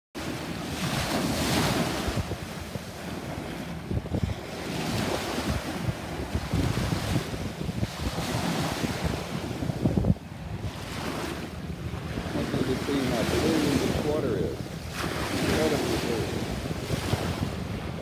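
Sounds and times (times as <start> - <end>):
small waves washing on sand: 0.2 - 18.0
wind buffeting microphone: 0.2 - 18.0.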